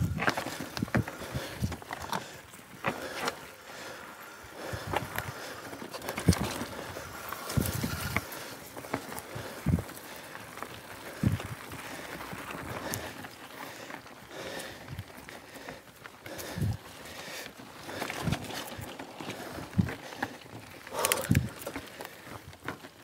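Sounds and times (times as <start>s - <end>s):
mountain bike tyre noise: 0.0s - 23.0s.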